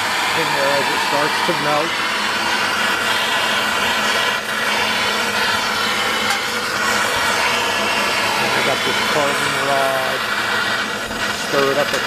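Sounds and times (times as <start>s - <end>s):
gas torch hissing flame: 0.0s - 12.0s.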